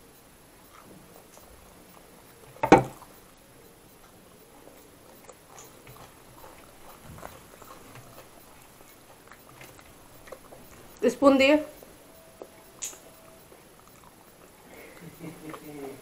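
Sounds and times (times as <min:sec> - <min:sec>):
soft mouth sounds: 0:00.6 - 0:11.0, 0:11.6 - 0:16.0
person chewing food: 0:00.6 - 0:16.0.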